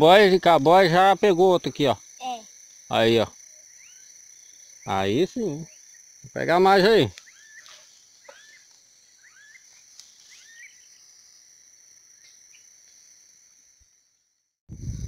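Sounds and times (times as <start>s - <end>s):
insects chirring: 0.0s - 15.0s
short insect chirps: 1.2s - 15.0s.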